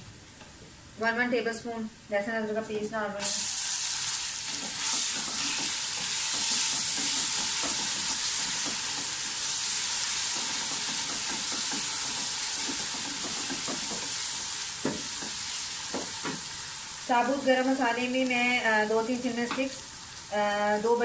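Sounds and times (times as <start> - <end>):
onions sizzling in hot oil: 3.2 - 21.0.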